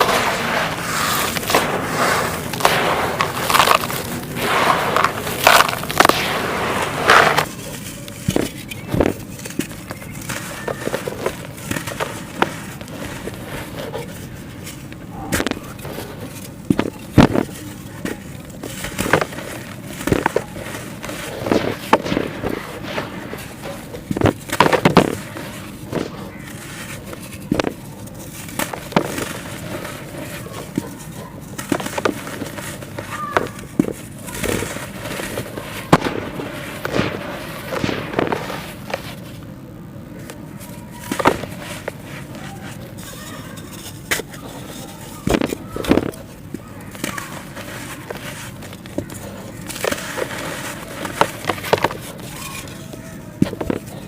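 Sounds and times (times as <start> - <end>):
clay crunching by hand: 0.0 - 39.5, 40.1 - 54.0.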